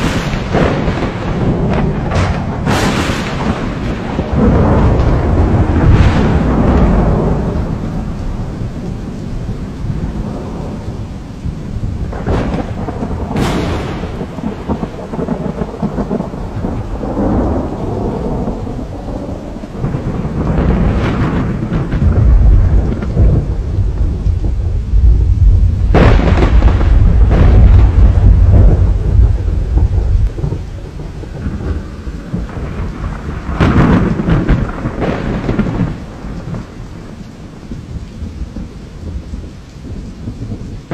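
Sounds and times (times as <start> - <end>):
heavy rain pouring: 0.0 - 40.9
rumble of thunder: 0.0 - 40.9
sharp cracks of thunder: 0.0 - 40.9.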